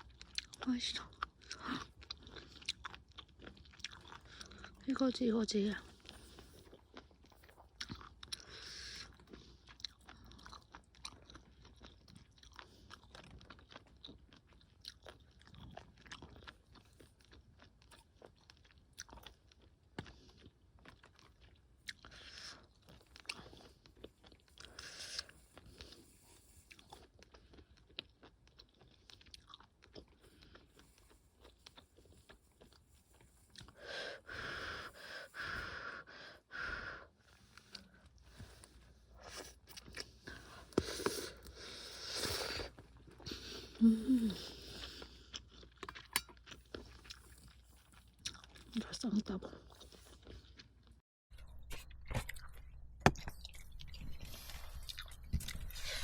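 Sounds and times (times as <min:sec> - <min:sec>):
chewing with small crunches: 0:00.0 - 0:56.0.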